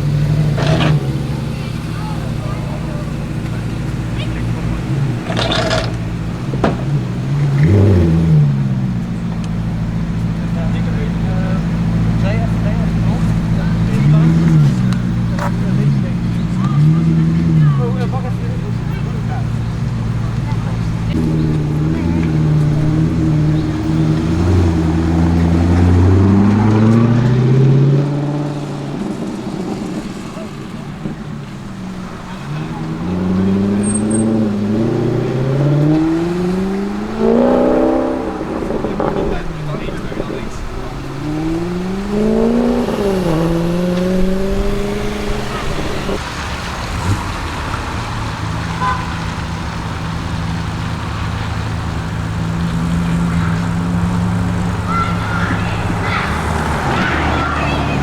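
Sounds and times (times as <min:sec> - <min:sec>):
car engine and exhaust under load: 0:00.0 - 0:58.0.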